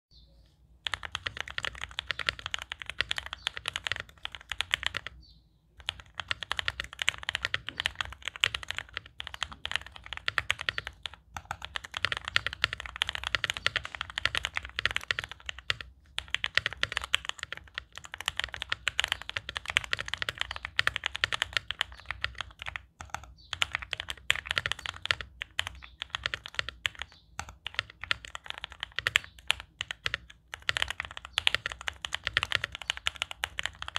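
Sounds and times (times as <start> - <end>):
mechanical keyboard typing: 0.8 - 5.2, 5.8 - 33.9.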